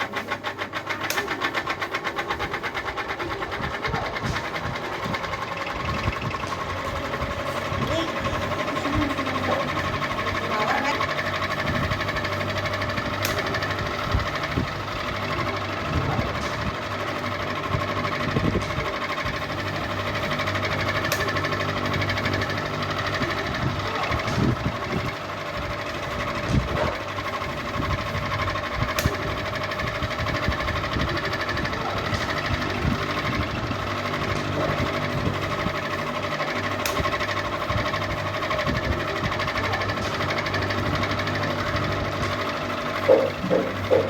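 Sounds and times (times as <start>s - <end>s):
ceiling fan humming: 0.0s - 44.0s.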